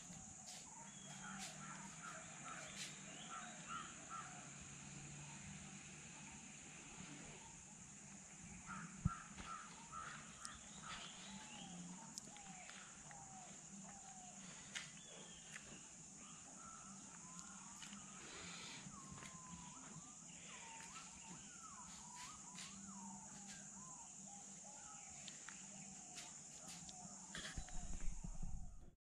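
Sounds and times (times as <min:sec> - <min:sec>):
birds calling with whistled notes: 0:00.0 - 0:04.5, 0:06.2 - 0:28.8
steady high-pitched hiss: 0:00.0 - 0:29.0.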